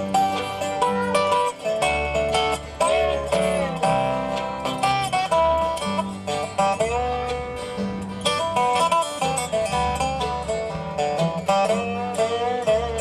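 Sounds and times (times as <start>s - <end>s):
resonator guitar picking: 0.0s - 13.0s.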